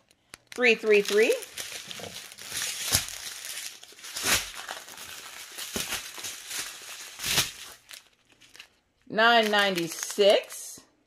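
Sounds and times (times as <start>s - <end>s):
small plastic bags crinkling: 0.0s - 10.8s.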